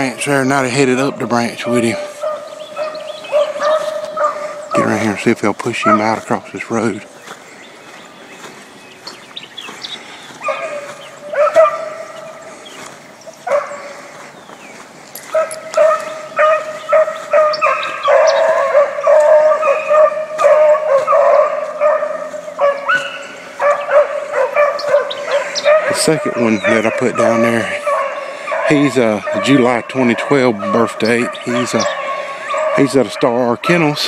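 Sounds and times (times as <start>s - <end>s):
beagles baying: 0.0s - 34.0s.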